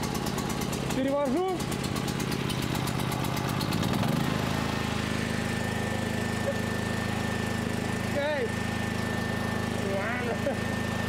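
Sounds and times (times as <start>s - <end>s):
petrol generator engine running: 0.0s - 11.0s.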